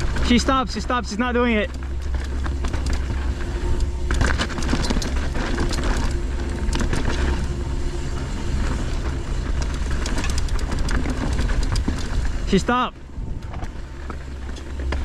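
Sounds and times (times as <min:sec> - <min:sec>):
bike clattering over rough trail: 0:00.0 - 0:15.0
wind rumbling on microphone: 0:00.0 - 0:15.0.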